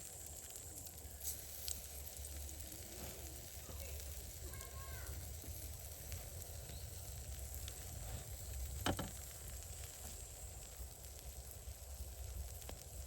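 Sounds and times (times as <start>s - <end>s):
campfire crackling: 0.0s - 13.0s
food sizzling: 0.0s - 13.0s.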